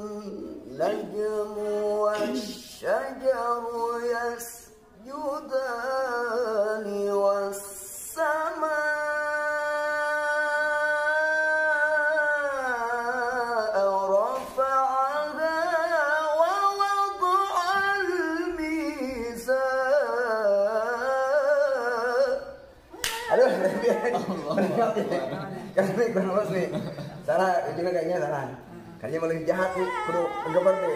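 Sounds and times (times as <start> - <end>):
man reciting melodically: 0.0 - 30.9.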